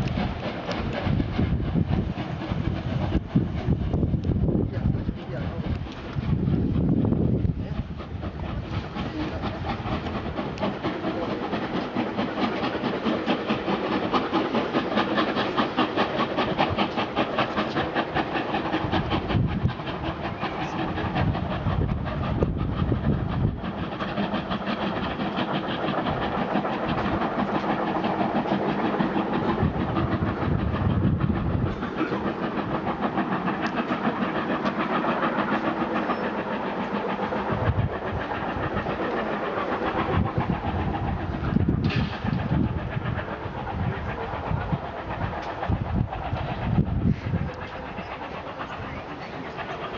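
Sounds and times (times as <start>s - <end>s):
steam hissing: 0.0s - 49.9s
steam locomotive exhaust beats: 0.0s - 49.9s
steam train wheels clattering: 0.0s - 49.9s.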